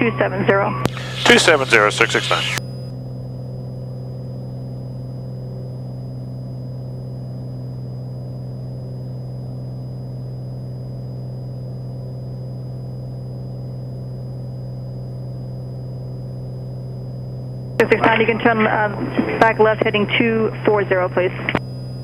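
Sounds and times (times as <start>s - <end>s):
faint high whine: 0.0s - 22.0s
propeller plane engine droning: 0.0s - 22.0s.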